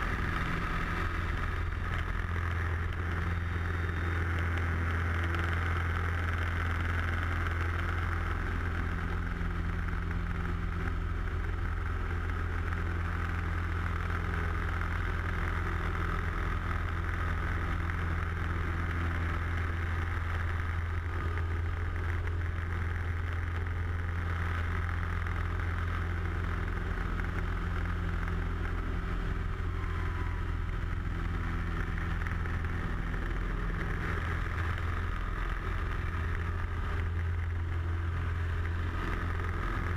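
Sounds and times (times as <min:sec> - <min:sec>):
plane engine and propeller droning: 0:00.0 - 0:39.9.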